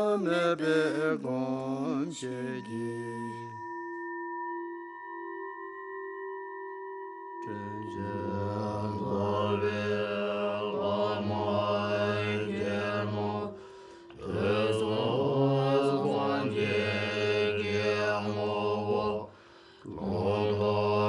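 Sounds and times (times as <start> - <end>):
low droning chanting voices: 0.0 - 3.8, 7.4 - 21.0
singing bowl ringing: 1.8 - 18.9.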